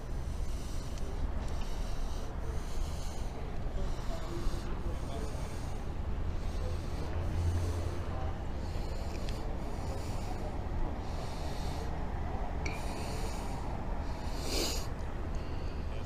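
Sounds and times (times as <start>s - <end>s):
person breathing: 0.0s - 12.0s, 12.6s - 16.0s.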